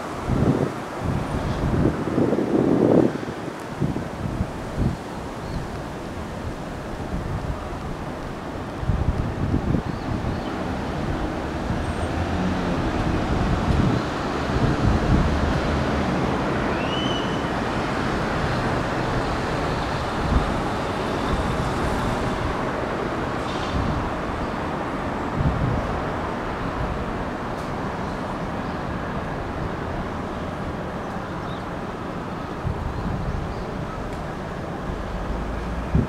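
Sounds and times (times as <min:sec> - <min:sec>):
strong wind through trees: 0:00.0 - 0:36.0
wind buffeting microphone: 0:00.0 - 0:36.0.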